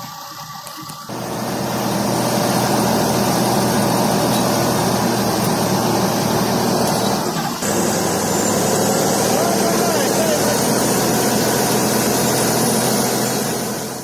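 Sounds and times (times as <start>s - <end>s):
diesel engine running under load: 1.1s - 14.0s.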